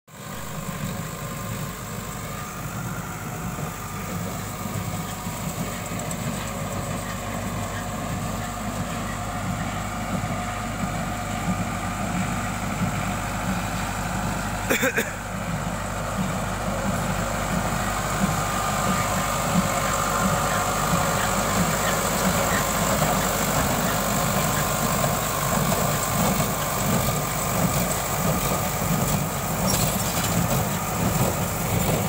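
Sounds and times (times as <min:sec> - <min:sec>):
tractor diesel engine running: 0:00.1 - 0:32.0.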